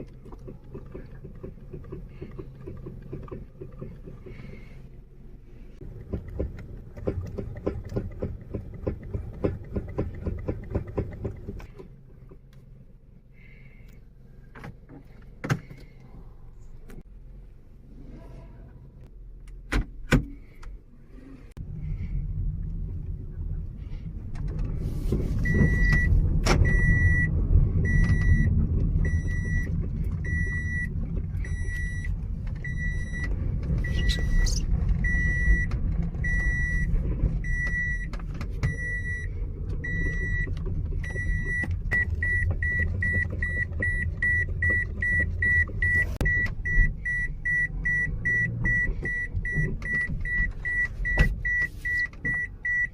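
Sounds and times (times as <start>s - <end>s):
car engine rumbling: 0.0s - 52.9s.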